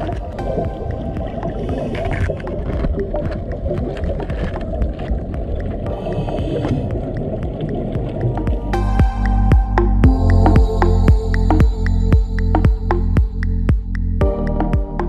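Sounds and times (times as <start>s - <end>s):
muffled underwater water rumble: 0.0s - 15.0s.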